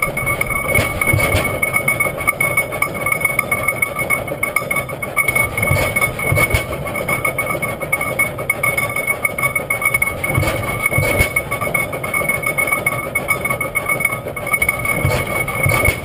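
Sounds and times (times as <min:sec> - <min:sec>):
sharp engine firing beats: 0:00.0 - 0:16.0
tractor engine chugging at idle: 0:00.0 - 0:16.0.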